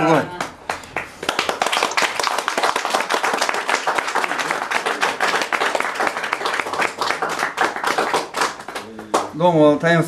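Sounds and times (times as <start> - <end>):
people clapping: 0.0 - 9.8.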